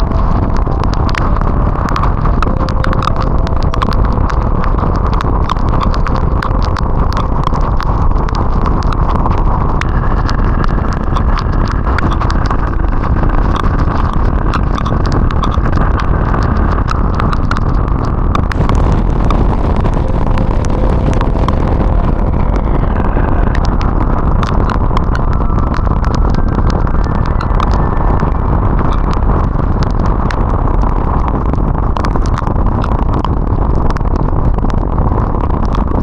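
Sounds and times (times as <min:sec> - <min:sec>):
raindrops tapping camera: 0:00.0 - 0:36.0
wind rumble: 0:00.0 - 0:36.0.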